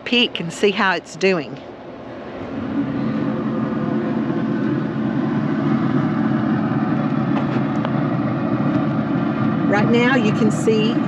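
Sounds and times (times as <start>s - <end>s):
smoker fan humming: 0.0s - 11.0s.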